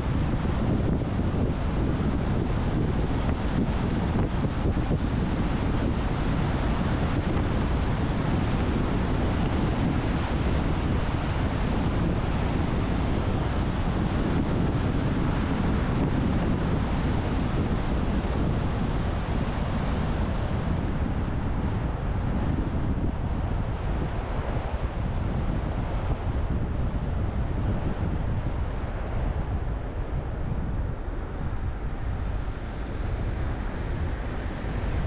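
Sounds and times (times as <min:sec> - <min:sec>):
car road and wind noise: 0:00.0 - 0:35.0.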